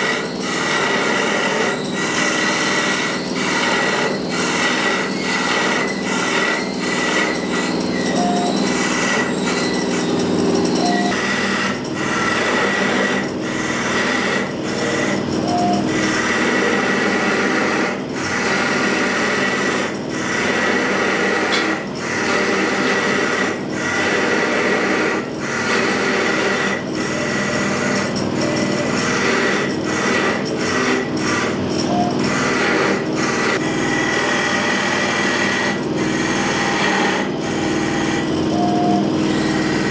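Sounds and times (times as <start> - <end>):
cutter rasping against wood: 0.0 - 39.9.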